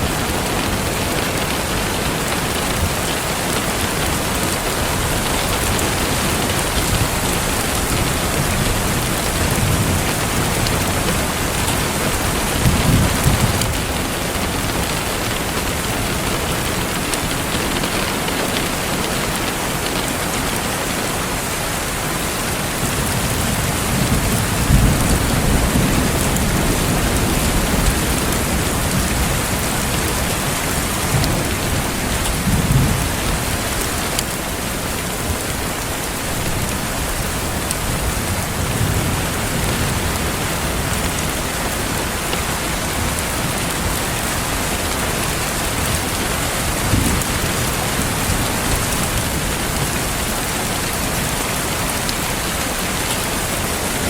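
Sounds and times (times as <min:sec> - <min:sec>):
thunder rumbling: 0:00.0 - 0:19.5, 0:22.6 - 0:51.6
heavy rain falling: 0:00.0 - 0:54.0.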